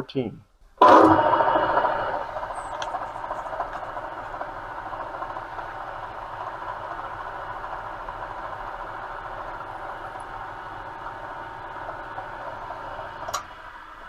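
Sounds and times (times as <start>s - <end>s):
milling machine spindle running: 0.8s - 13.3s.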